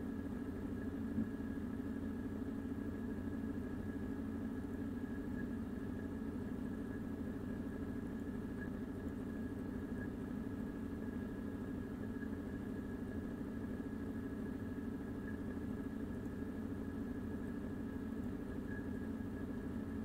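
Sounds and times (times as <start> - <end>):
faint high whine: 0.0 - 20.0
steady low hum: 0.0 - 20.0.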